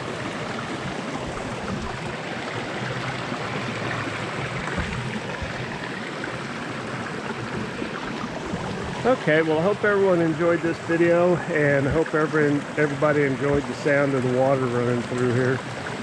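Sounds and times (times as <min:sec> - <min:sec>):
stream pouring over waterfall: 0:00.0 - 0:16.0.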